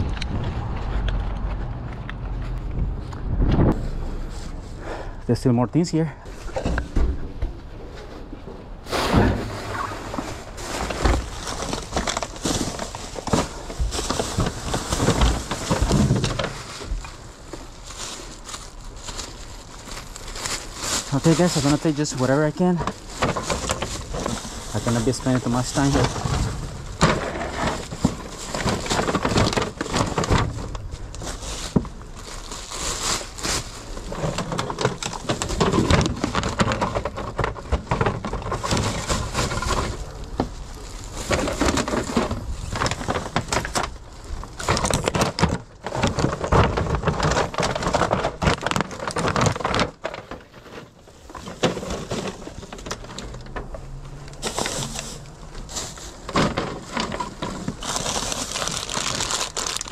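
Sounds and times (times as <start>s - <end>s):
plastic bags rustling: 3.7s - 59.9s
goods knocking in bags: 9.0s - 59.9s.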